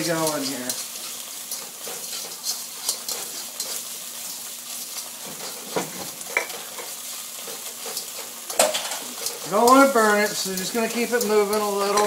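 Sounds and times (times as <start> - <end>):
curry paste sizzling in oil: 0.0 - 12.0
utensil scraping a wok: 0.0 - 12.0.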